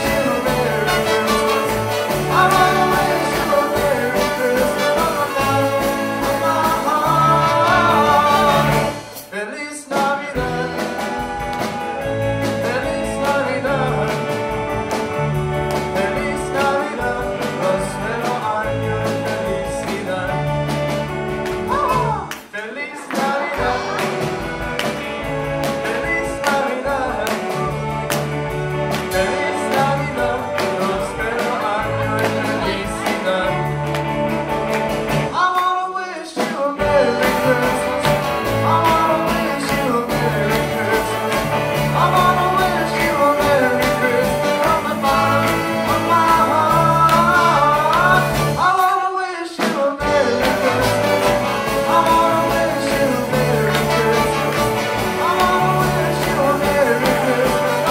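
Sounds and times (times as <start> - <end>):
upright bass: 0.0 - 9.2, 10.0 - 22.4, 23.2 - 35.4, 36.8 - 48.8, 50.0 - 57.9
electric guitars: 0.0 - 9.4, 10.3 - 35.7, 36.8 - 48.8, 50.0 - 57.9
horn section: 0.0 - 9.5, 10.4 - 35.4, 36.8 - 49.1, 50.0 - 57.9
drums: 0.0 - 57.9.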